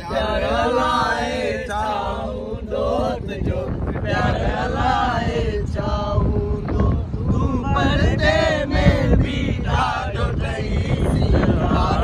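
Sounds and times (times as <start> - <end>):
moving vehicle rumble: 0.0 - 12.0
wind rumble: 0.0 - 12.0.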